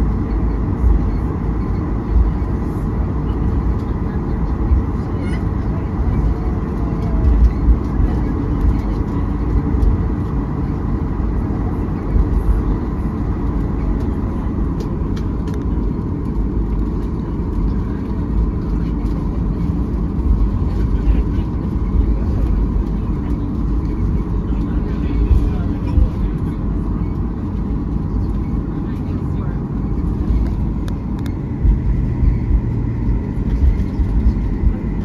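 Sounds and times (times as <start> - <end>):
jet airliner cabin rumble: 0.0 - 35.0
murmur of voices: 0.0 - 35.0.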